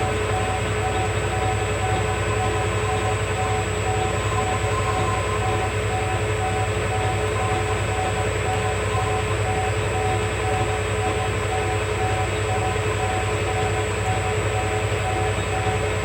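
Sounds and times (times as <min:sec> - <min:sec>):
faint pulsing tone: 0:00.0 - 0:16.0
metal lathe humming: 0:00.0 - 0:16.0.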